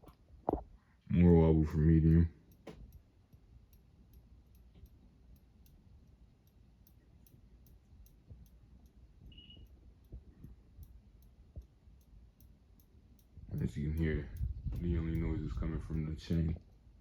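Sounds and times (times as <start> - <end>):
ceiling fan running: 1.4 - 17.0.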